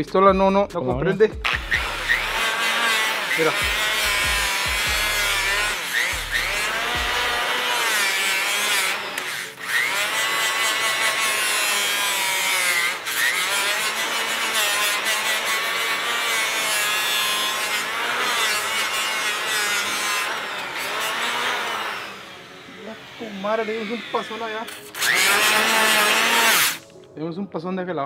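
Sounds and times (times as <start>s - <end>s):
power grinder whining: 1.4s - 26.9s.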